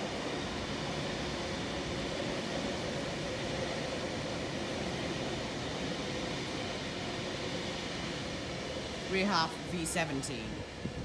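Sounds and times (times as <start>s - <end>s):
electric train rumbling past: 0.0s - 11.0s.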